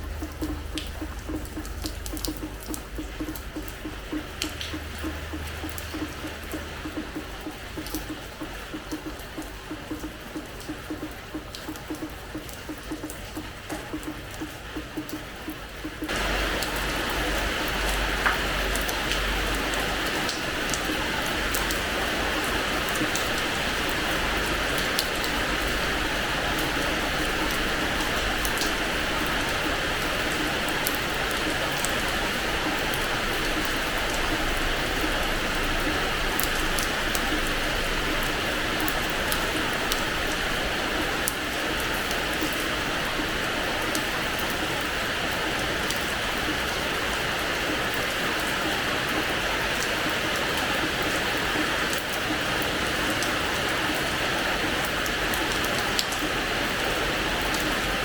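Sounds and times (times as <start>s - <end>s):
rain falling on hard floor: 0.0s - 58.0s.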